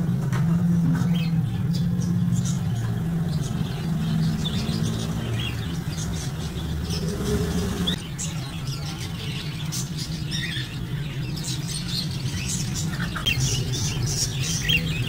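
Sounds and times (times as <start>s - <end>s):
caged birds chirping: 0.0s - 15.0s
steady low hum: 0.0s - 15.0s.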